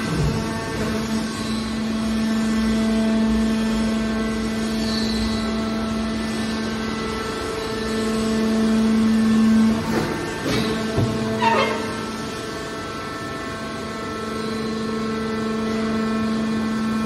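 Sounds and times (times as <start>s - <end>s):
hydraulic machine hum: 0.0s - 17.0s.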